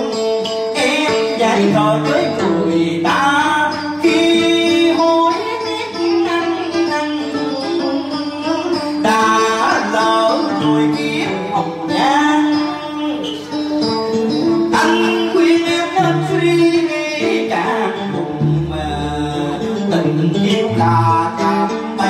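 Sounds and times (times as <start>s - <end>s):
person singing: 0.0s - 22.0s
plucked strings melody: 0.0s - 22.0s.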